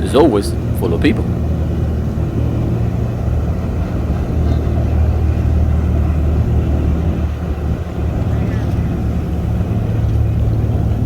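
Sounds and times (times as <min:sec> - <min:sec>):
jet ski engine droning: 0:00.0 - 0:11.0
rushing wind: 0:00.0 - 0:11.0
water noise: 0:00.0 - 0:11.0.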